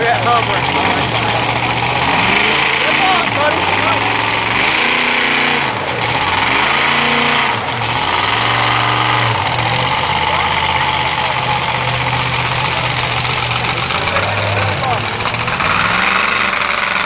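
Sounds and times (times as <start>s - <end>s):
engine idling: 0.0s - 17.0s
truck engine revving: 0.0s - 17.0s.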